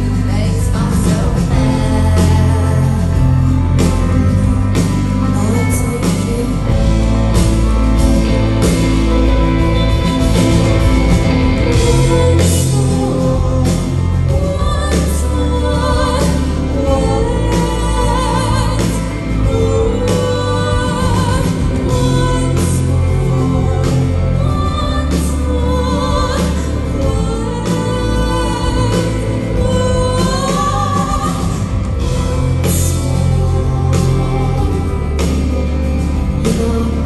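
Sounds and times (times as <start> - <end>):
rock band playing: 0.0 - 37.0
woman singing: 0.0 - 37.0.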